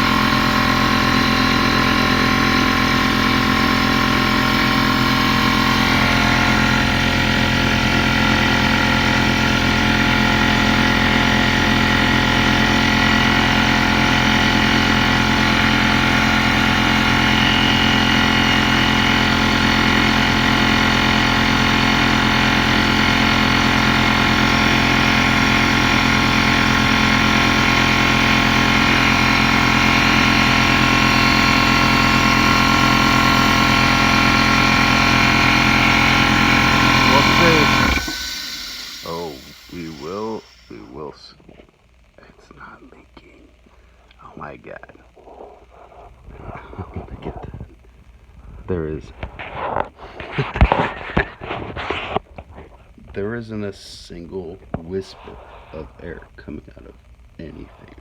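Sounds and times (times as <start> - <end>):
air compressor running: 0.0 - 41.6, 48.3 - 56.2.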